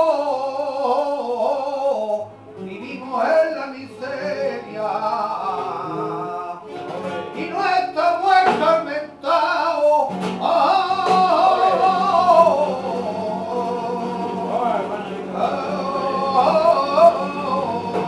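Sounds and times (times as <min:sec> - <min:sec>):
man singing flamenco: 0:00.0 - 0:18.0
strummed acoustic guitar chords: 0:00.0 - 0:18.0.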